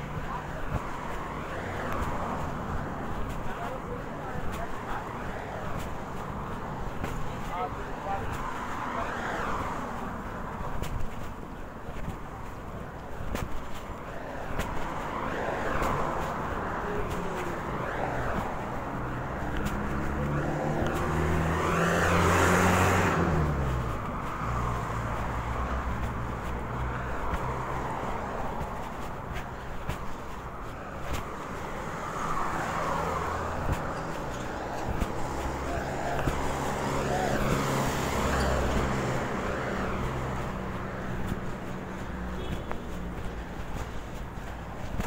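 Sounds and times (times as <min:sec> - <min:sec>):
road traffic with engine hum: 0:00.0 - 0:45.0.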